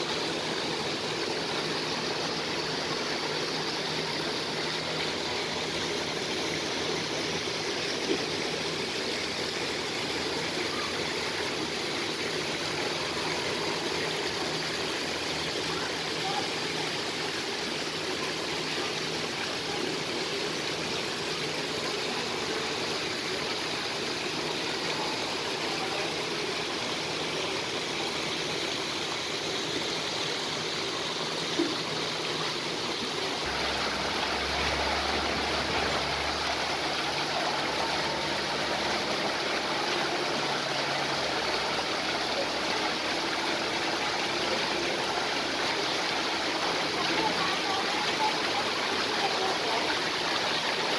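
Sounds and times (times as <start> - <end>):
waterfall rushing and splashing: 0.0 - 50.9.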